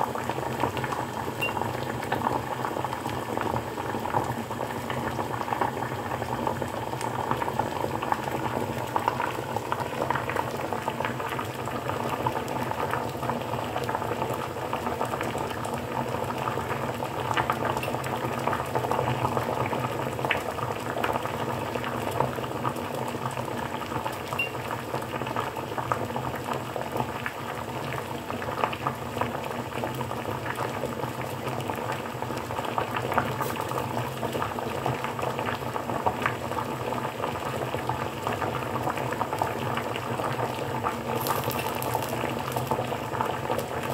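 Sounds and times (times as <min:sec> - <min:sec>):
water boiling with crackling pops: 0:00.0 - 0:43.9.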